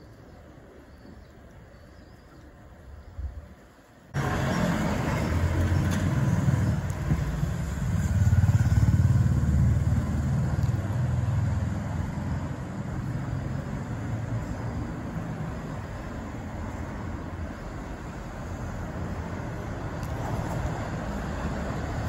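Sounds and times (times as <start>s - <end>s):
vehicle engine rumble passing: 4.1s - 22.0s.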